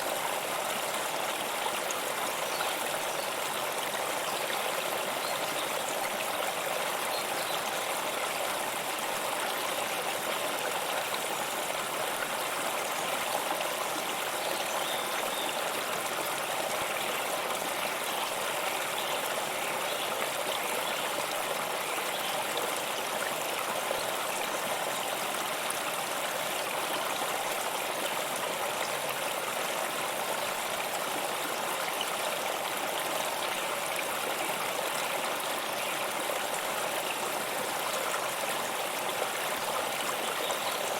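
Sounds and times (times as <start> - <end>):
stream of water splashing: 0.0 - 40.9.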